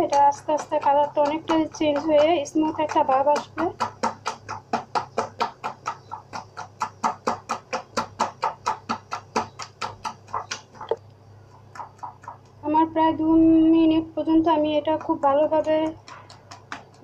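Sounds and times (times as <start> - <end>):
hand slapping wet batter: 0.0 - 12.7, 14.7 - 17.0.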